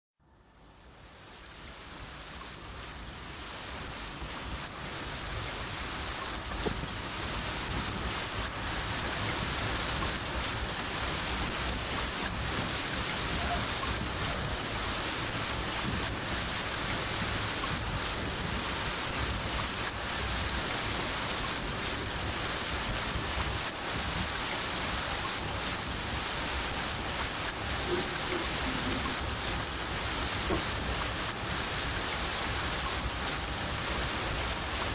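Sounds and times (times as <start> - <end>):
cricket chirping: 0.2 - 34.9
rain hiss: 0.8 - 34.9.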